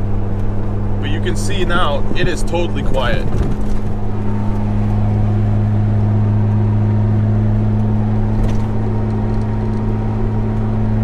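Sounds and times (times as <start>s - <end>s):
engine and road drone in car: 0.0s - 11.0s.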